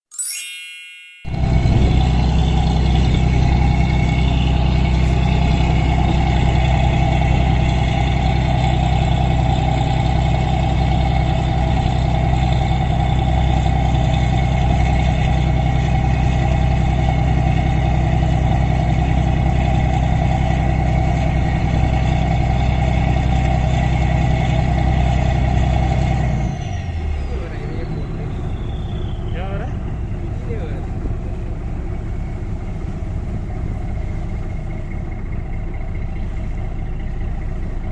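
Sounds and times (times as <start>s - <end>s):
engine droning with hiss: 1.3s - 37.9s.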